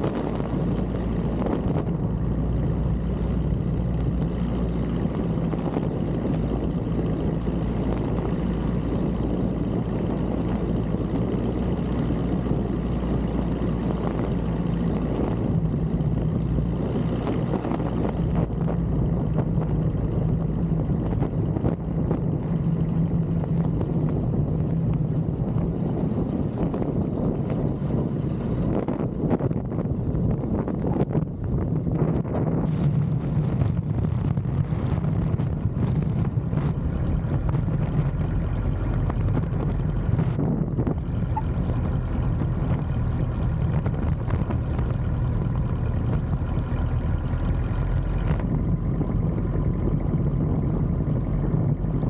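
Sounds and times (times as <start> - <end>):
light aircraft engine droning: 0.0 - 52.0.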